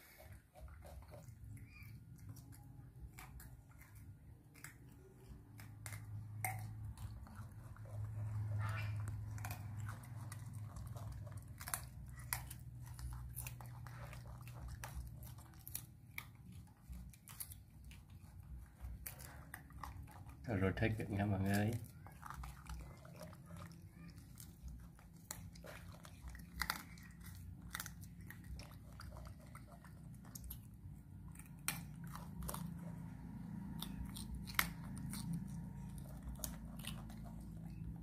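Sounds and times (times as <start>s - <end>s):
low steady hum: 0.0s - 38.0s
monkeys chewing fruit: 0.0s - 38.0s.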